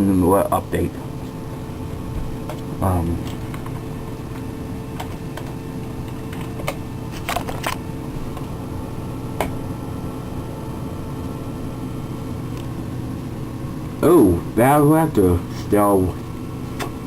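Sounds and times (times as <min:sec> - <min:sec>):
computer fan humming: 0:00.0 - 0:17.0.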